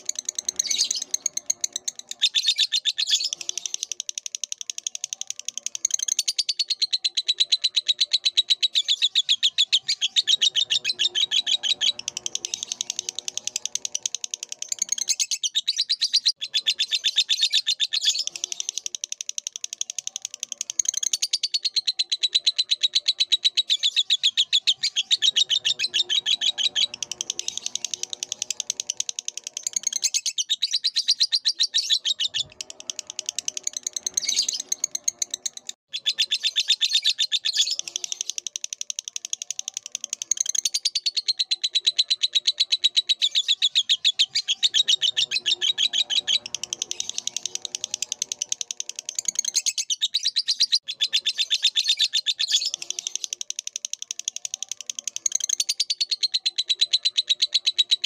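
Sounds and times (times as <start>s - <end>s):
lovebird chattering song: 0.0s - 58.0s.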